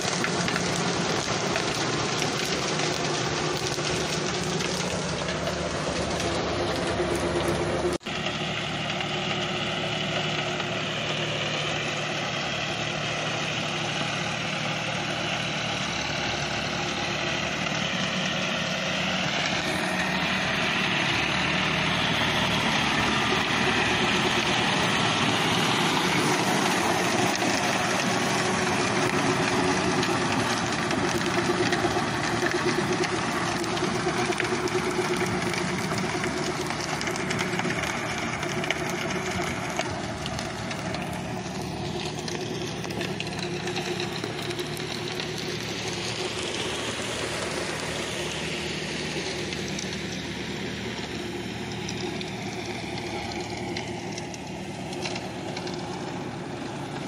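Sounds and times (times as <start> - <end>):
rotavator churning wet mud: 0.0 - 57.0
tractor diesel engine running: 0.0 - 57.0.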